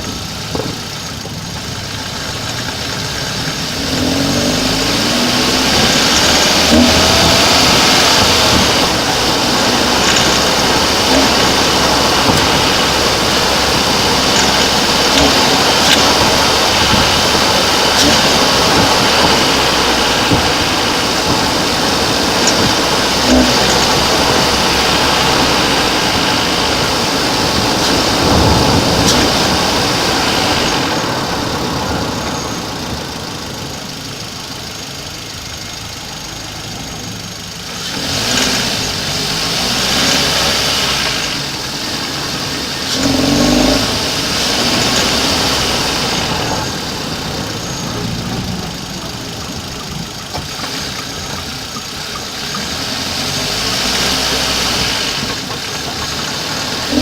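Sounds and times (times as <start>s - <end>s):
car engine running: 0.0s - 57.0s
strange engine noise: 0.0s - 57.0s.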